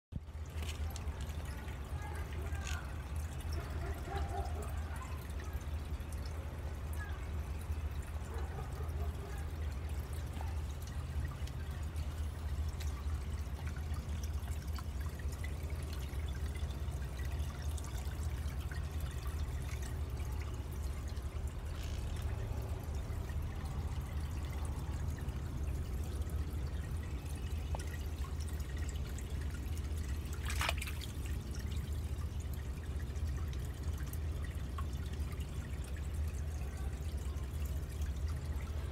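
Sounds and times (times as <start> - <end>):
water trickling and dripping: 0.1 - 38.9.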